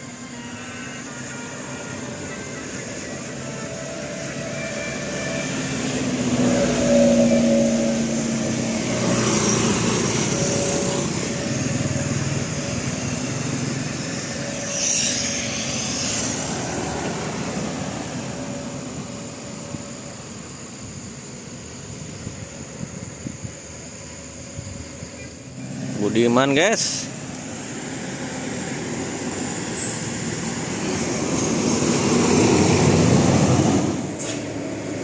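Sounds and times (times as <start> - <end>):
bus driving past: 0.0 - 35.0.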